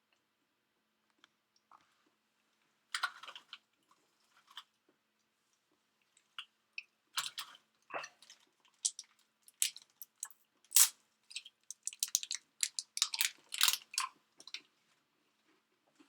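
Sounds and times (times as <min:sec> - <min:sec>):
chewing and crunching food: 0:01.1 - 0:16.0.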